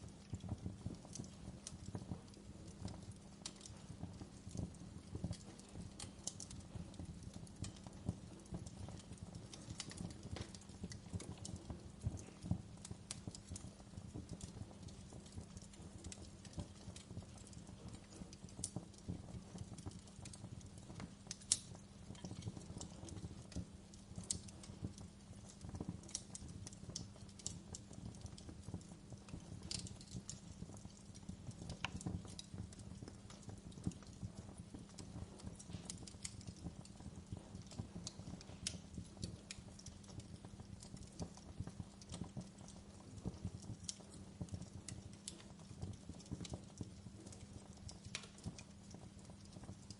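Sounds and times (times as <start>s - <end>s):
fire rumbling: 0.0s - 49.9s
wood crackling and popping: 0.0s - 49.9s.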